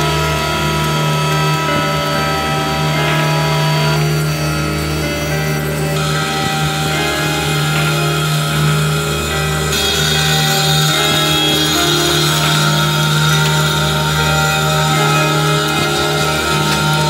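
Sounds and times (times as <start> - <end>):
background music with sustained chords: 0.0 - 17.0.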